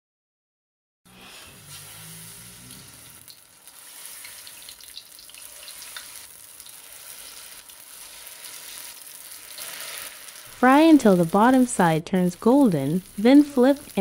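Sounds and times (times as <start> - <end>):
potatoes sizzling in hot oil: 1.2 - 14.0.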